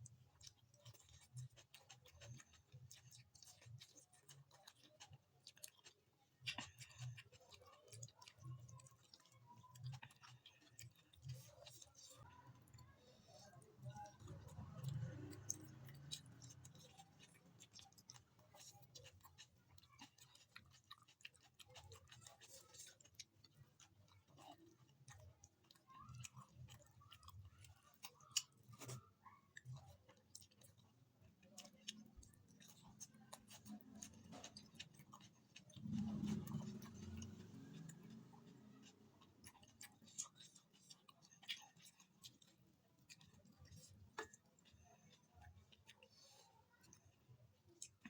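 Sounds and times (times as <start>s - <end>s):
chewing: 0.0s - 48.0s.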